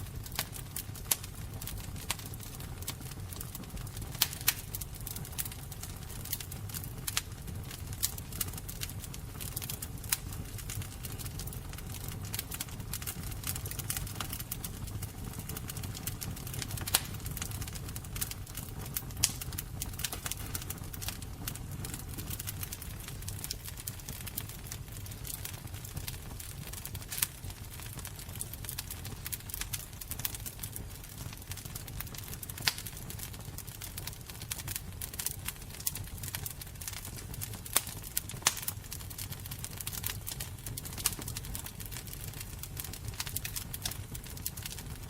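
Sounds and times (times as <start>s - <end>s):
fire crackling and popping: 0.0s - 45.0s.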